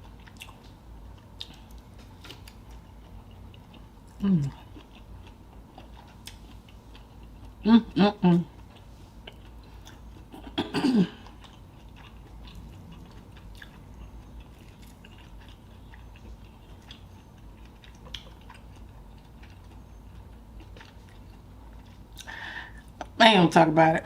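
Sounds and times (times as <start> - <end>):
person chewing: 0.0 - 23.1.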